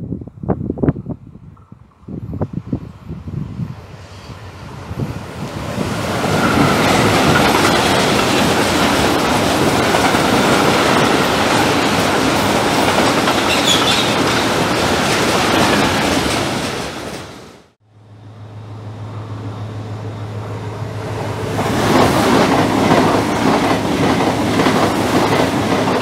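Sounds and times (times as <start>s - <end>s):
freight train passing: 0.4s - 26.0s
wheel-on-rail noise: 3.8s - 17.7s, 18.4s - 26.0s.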